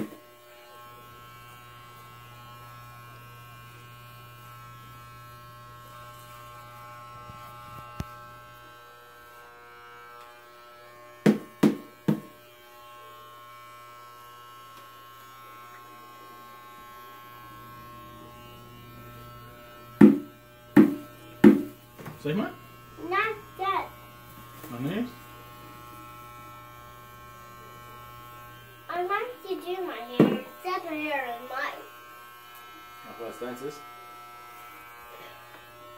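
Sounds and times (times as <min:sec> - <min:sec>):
hair clipper buzzing: 0:00.0 - 0:35.9.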